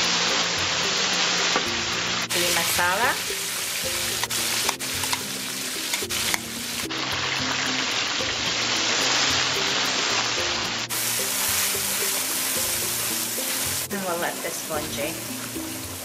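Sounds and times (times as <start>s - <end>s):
background music: 0.0s - 16.0s
paste sizzling in oil: 0.0s - 16.0s.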